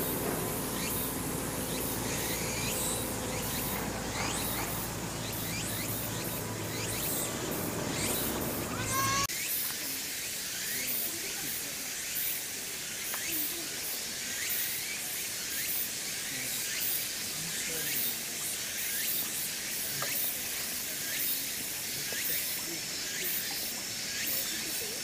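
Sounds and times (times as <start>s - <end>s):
cicadas shrilling: 0.0s - 25.0s.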